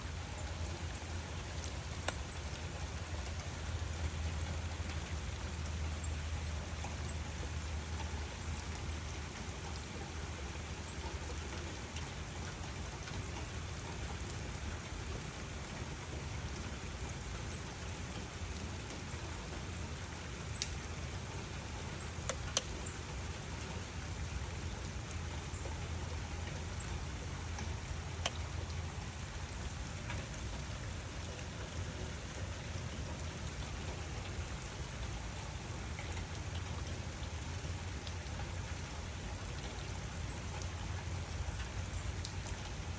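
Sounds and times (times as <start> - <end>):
rain falling on a surface: 0.0 - 42.9.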